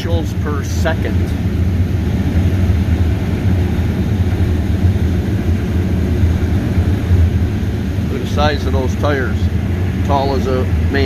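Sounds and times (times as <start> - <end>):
heavy machinery engine droning: 0.0 - 11.0.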